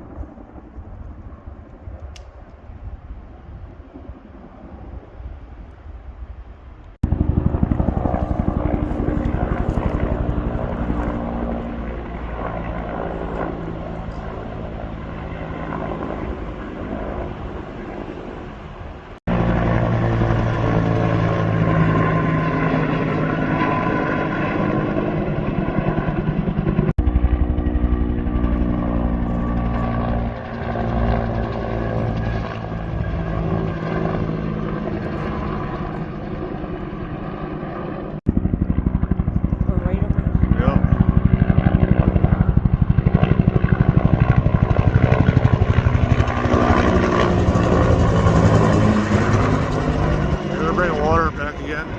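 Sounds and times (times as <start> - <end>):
helicopter rotor beating: 7.0 - 51.9.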